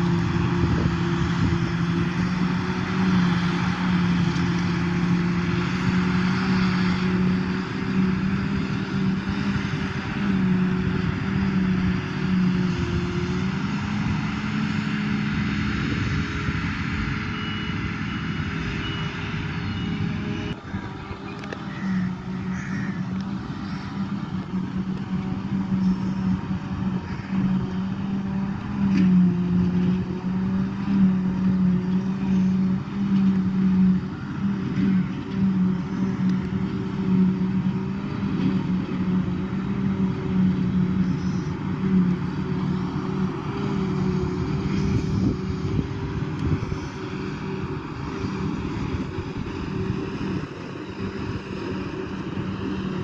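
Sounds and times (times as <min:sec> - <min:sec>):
heavy engine drone: 0:00.0 - 0:53.0.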